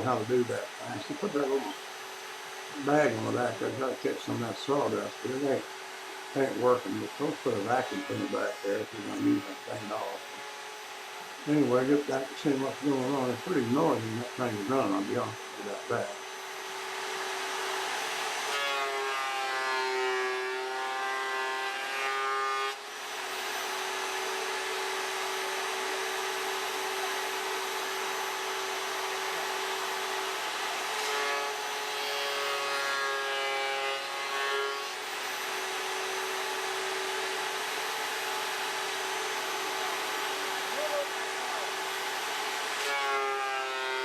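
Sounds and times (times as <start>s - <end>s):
wood planer running: 0.0s - 44.0s.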